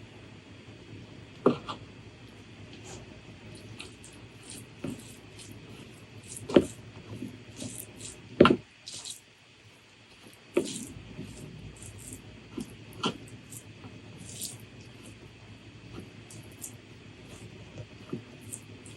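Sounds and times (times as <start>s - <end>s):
close eating crunches and clicks: 2.7s - 9.3s, 10.1s - 18.9s.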